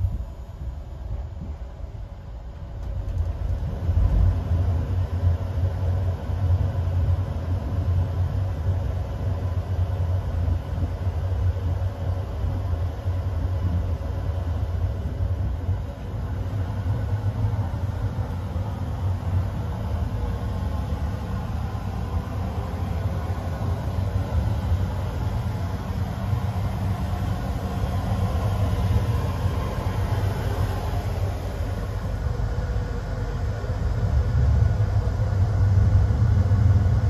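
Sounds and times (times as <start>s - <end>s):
train wheels rumbling on track: 0.0s - 8.6s, 13.5s - 37.0s.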